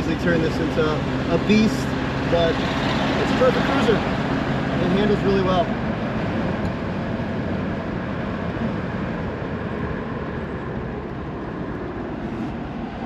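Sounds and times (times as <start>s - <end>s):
car engine drone: 0.0s - 13.0s
road and wind noise: 0.0s - 13.0s.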